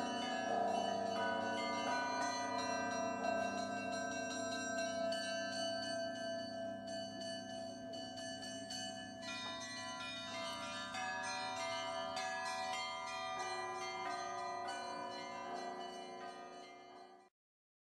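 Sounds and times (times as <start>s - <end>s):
bells ringing: 0.0s - 17.3s.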